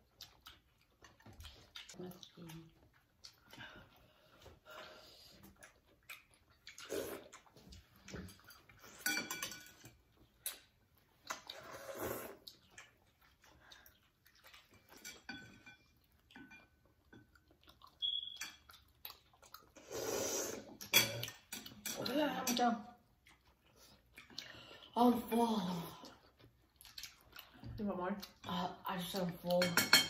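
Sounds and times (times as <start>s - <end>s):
chewing and mouth sounds: 0.0s - 29.5s.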